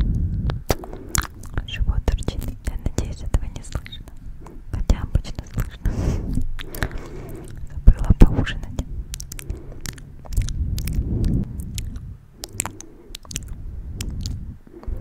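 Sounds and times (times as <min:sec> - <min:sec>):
microphone handling rumble: 0:00.0 - 0:15.0
wet mouth clicks and smacks: 0:00.0 - 0:15.0.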